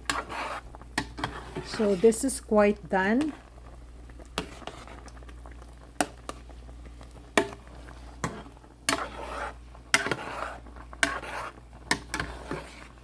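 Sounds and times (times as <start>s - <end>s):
scraping and sloshing soup: 0.0s - 13.0s.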